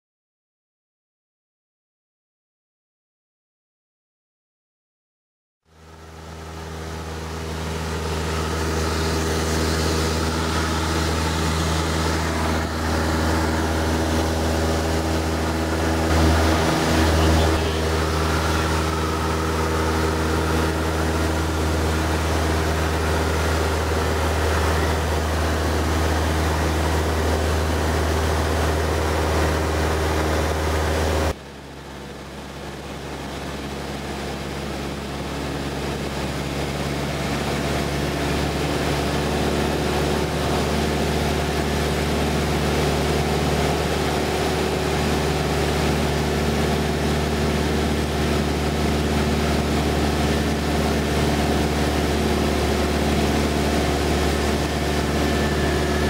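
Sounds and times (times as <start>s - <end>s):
aircraft engine and propeller droning: 5.7s - 56.0s.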